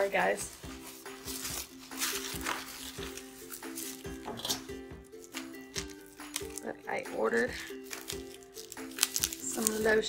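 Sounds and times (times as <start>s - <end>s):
tissue paper and plastic crinkling: 0.0s - 6.7s, 7.3s - 10.0s
background music with held notes: 0.0s - 10.0s.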